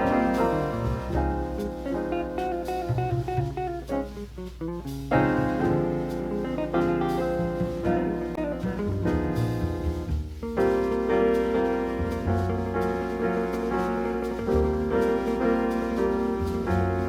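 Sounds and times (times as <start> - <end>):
bass line: 0.0 - 17.0
jazz piano chords: 0.0 - 17.0.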